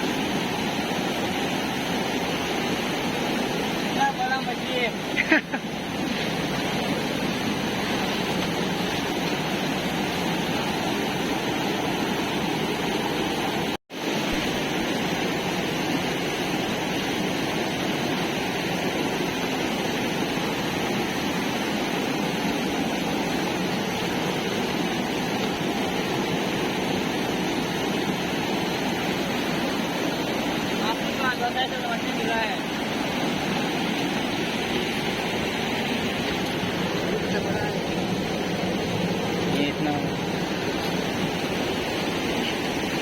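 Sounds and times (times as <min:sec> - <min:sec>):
fast-flowing river rushing: 0:00.0 - 0:43.0.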